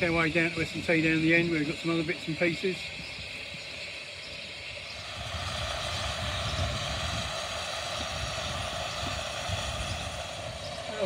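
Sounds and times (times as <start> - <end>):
low uneven rumble: 0.0 - 11.0
steam hissing: 0.0 - 11.0.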